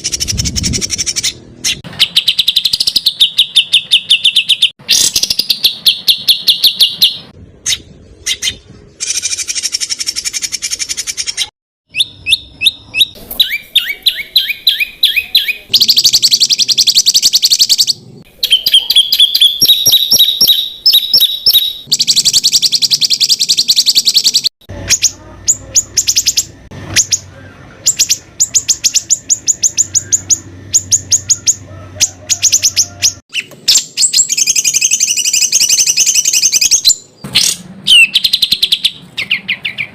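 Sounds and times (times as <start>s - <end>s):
songbirds rapid repeated calls: 0.0s - 39.9s.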